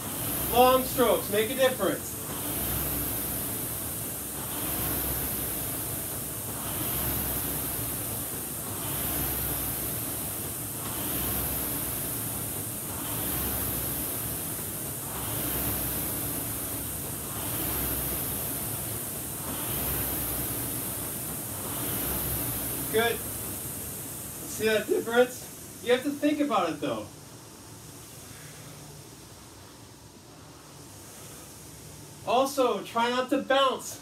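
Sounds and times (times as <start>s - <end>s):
rowing machine flywheel whooshing: 0.0s - 34.0s.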